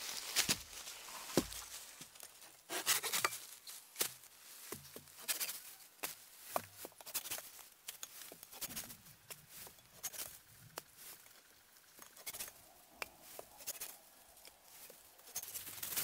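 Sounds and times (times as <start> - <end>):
footsteps in leaf litter: 0.0 - 10.4, 13.2 - 16.0.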